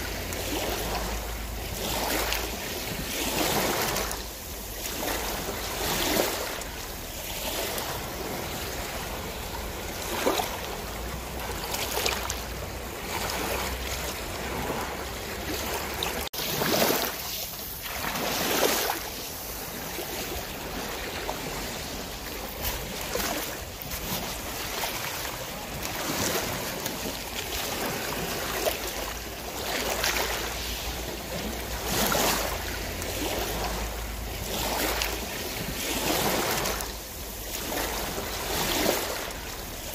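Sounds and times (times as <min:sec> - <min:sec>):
water slapping boat hull: 0:00.0 - 0:39.9.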